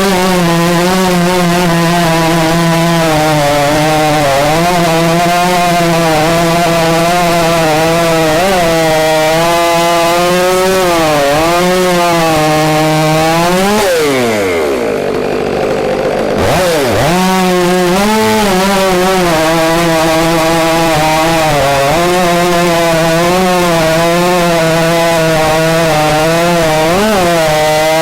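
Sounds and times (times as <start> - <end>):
chainsaw cutting log: 0.0 - 28.0.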